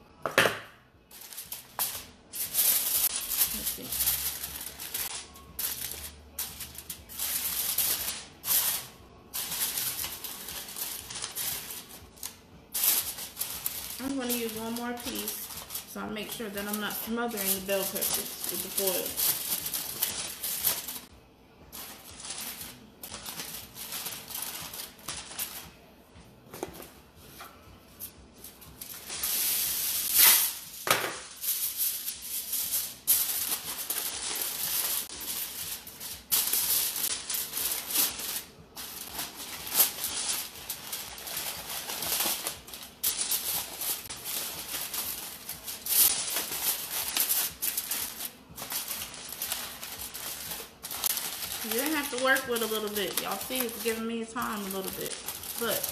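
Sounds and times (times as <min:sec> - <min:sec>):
aluminium foil crinkling: 0:01.1 - 0:21.1, 0:21.7 - 0:25.8, 0:28.0 - 0:55.9.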